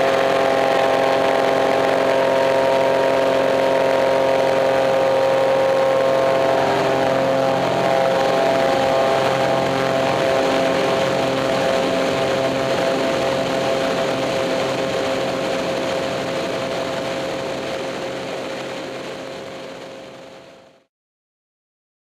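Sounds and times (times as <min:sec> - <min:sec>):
aircraft engine and propeller: 0:00.0 - 0:20.9.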